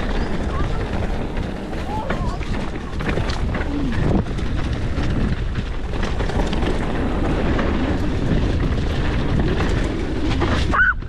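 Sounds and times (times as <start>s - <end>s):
bike rattling and knocking: 0.0s - 10.7s
bike tyres rumbling on dirt: 0.0s - 11.0s
wind rushing over microphone: 0.0s - 11.0s.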